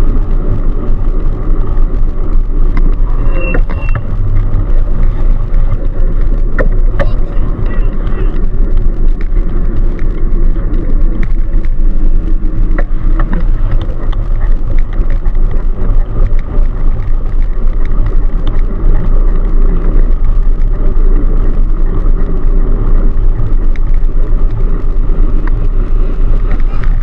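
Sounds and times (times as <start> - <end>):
lorries passing: 0.0 - 27.0
wind rumble on microphone: 0.0 - 27.0.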